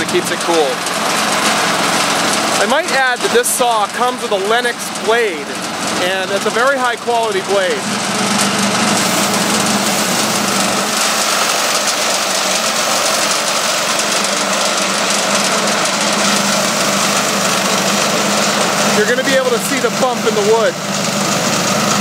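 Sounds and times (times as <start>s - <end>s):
gas engine running under load: 0.0s - 22.0s.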